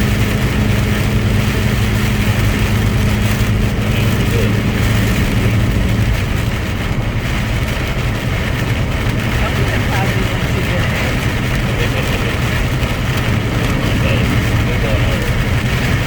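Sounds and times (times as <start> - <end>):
road noise: 0.0 - 16.0
truck engine running while driving: 0.0 - 16.0.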